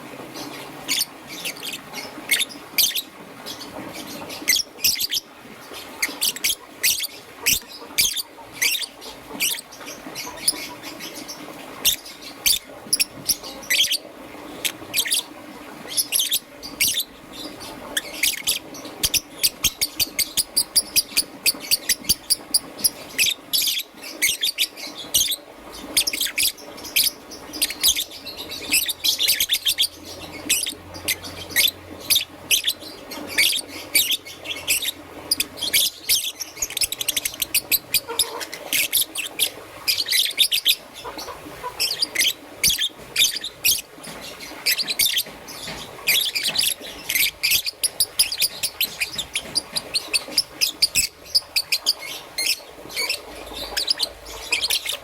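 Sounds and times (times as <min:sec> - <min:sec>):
lovebird chirping: 0:00.3 - 0:15.3, 0:15.9 - 0:55.0.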